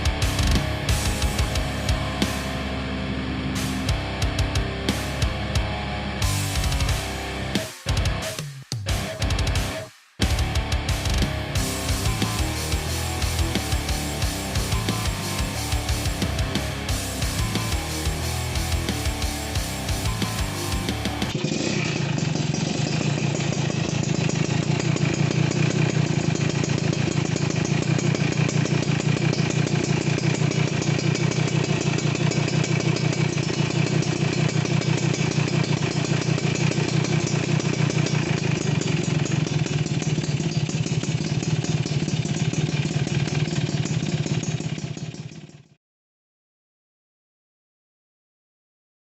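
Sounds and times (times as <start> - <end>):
two-stroke motorcycle engine idling: 0.0 - 45.7.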